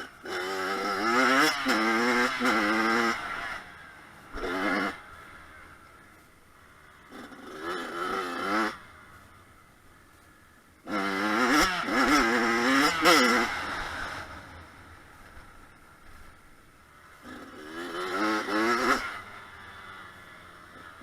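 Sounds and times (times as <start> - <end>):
dirt bike engine revving: 0.0 - 9.4, 10.3 - 21.0.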